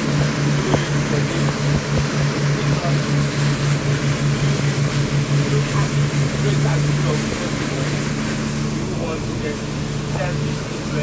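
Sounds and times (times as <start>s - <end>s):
pulsing engine drone: 0.0s - 11.0s
rushing water and wind: 0.0s - 11.0s.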